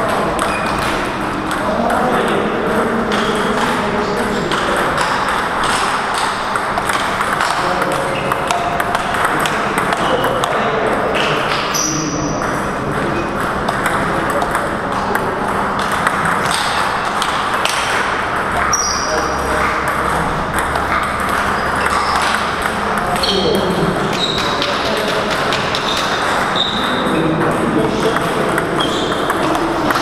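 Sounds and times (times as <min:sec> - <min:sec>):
table tennis ball clicking and bouncing: 0:00.0 - 0:30.0.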